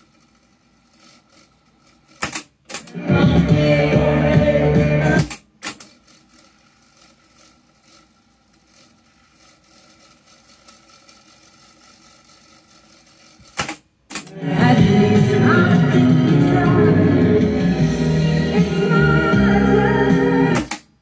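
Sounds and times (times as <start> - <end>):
tape mechanism running: 0.0 - 21.0.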